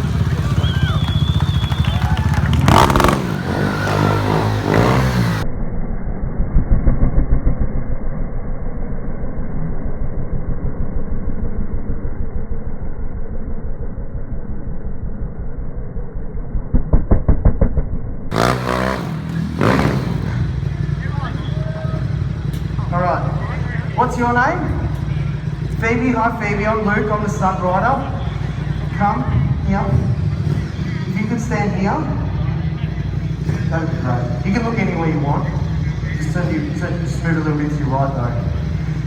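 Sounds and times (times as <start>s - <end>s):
muffled motorcycle engine revving: 0.0s - 39.0s.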